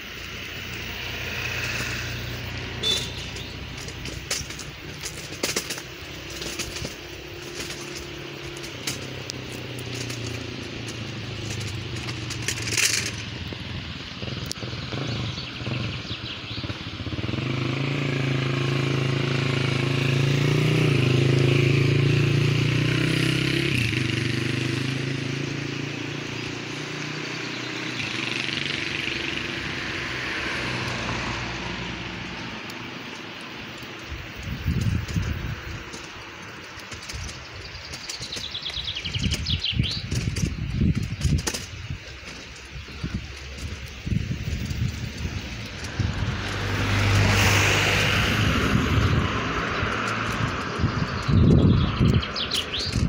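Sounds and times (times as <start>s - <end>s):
motor engine hum: 0.0s - 22.9s, 23.8s - 53.0s.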